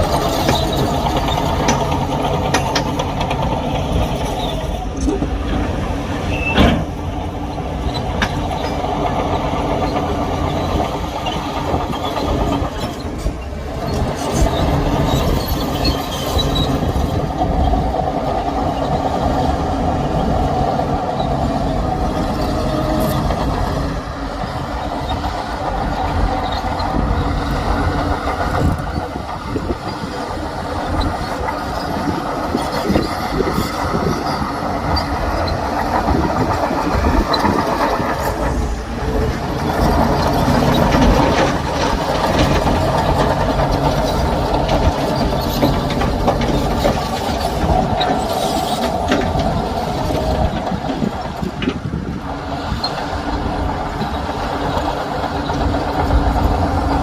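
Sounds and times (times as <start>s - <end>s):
bulldozer diesel engine: 0.0s - 57.0s
steel tracks clanking: 0.0s - 57.0s.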